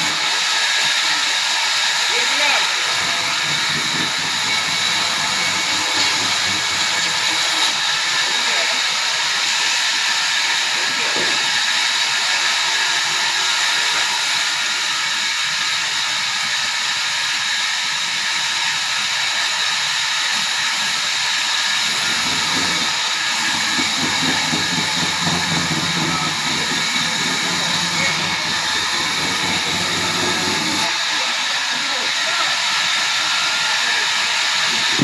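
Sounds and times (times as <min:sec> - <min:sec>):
sawmill machinery hissing and whining: 0:00.0 - 0:35.0.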